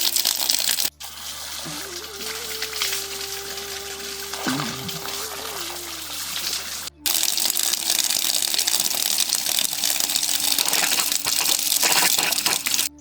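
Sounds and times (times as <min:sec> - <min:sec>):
water rushing and splashing: 0:00.0 - 0:12.9.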